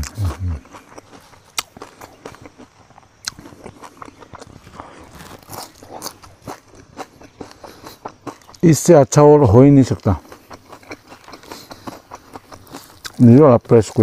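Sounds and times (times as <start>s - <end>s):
crunching and chewing: 0.0s - 14.0s.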